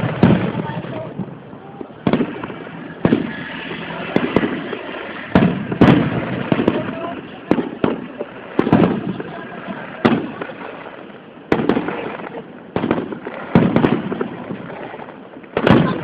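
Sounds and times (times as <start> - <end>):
fireworks booming with echo: 0.0 - 16.0.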